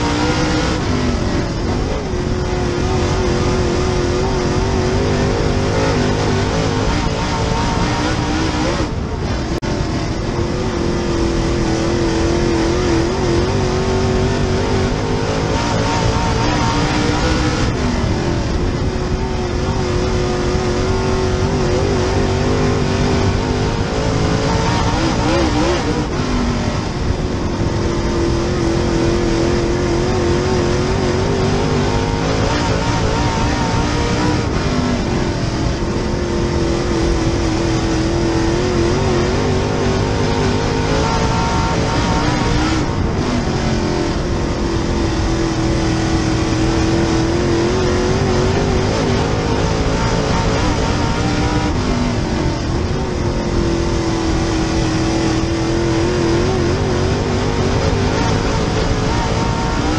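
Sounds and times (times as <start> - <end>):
race car engine at speed: 0.0 - 59.9
road and mechanical noise: 0.0 - 59.9.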